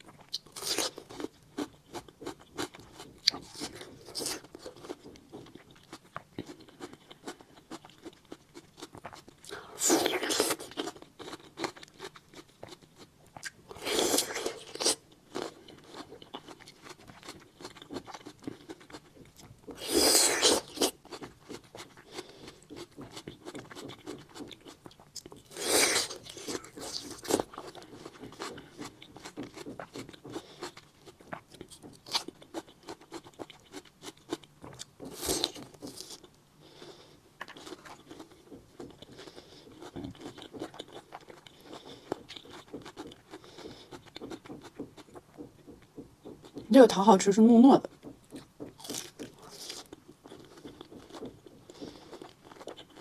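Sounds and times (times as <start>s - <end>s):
chewing and mouth smacks: 0.0s - 36.3s, 37.4s - 46.7s, 47.8s - 53.0s.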